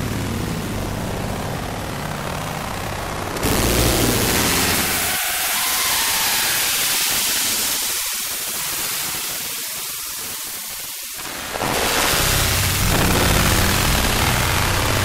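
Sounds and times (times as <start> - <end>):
synthesized white noise hiss: 0.0 - 15.0.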